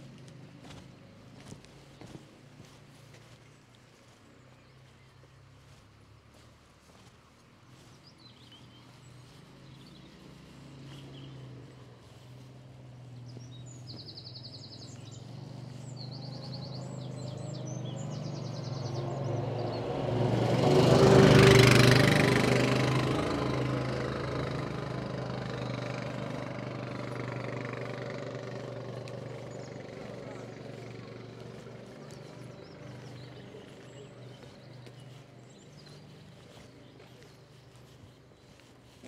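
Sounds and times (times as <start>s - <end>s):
birds chirping: 0.0s - 39.0s
quad bike engine humming: 0.0s - 39.0s.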